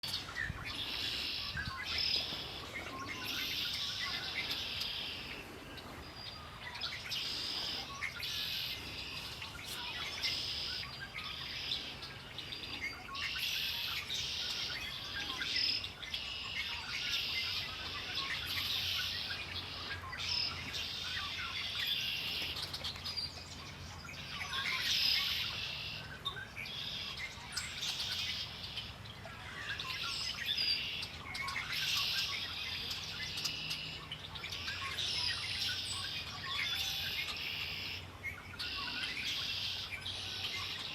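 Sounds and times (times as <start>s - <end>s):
wild birds singing and chirping: 0.0s - 40.9s.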